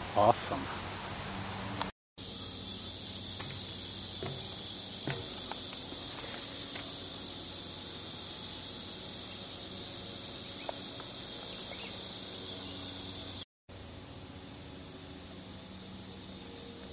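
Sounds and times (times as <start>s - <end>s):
insect chorus drone: 0.0s - 16.9s.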